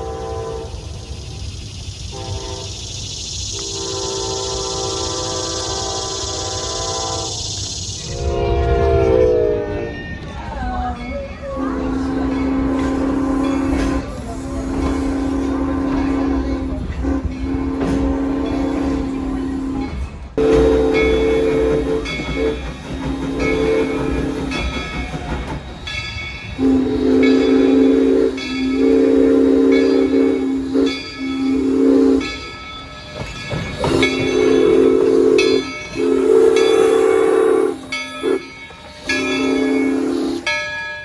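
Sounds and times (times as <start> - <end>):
train horn blasts: 0.0 - 0.8, 2.1 - 2.8, 3.6 - 7.4, 8.1 - 10.2, 11.4 - 24.6, 26.6 - 32.5, 33.8 - 40.6
rumble of passing train: 0.0 - 41.0.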